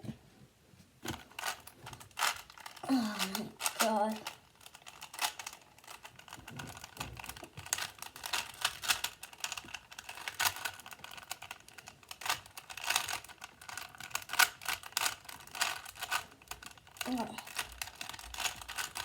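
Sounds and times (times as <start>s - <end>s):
puzzle cube plastic clicks: 1.1s - 19.0s.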